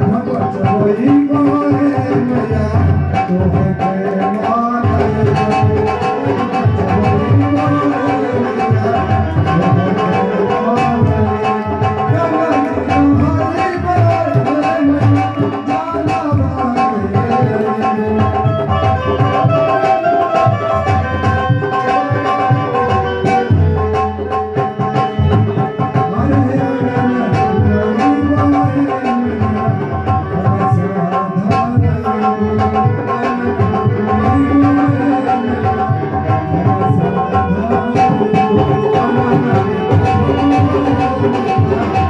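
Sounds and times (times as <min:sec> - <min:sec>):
hand drum rhythm: 0:00.0 - 0:42.0
harmonium chords and melody: 0:00.0 - 0:42.0.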